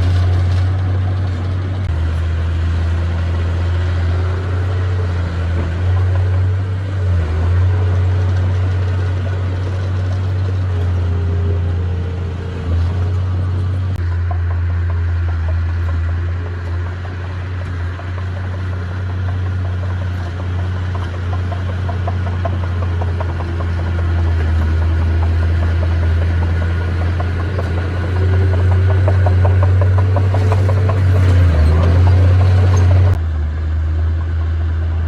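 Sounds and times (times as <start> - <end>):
rapid clatter: 0.0 - 33.2
bulldozer diesel engine drone: 0.0 - 35.0.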